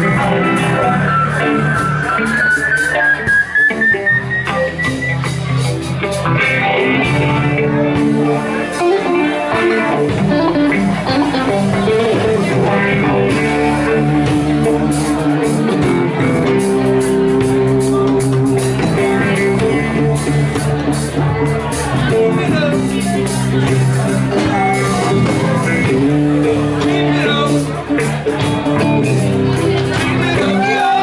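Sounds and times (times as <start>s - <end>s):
bass line: 0.0s - 31.0s
electric guitar: 0.0s - 31.0s
reggae band playing: 0.0s - 31.0s.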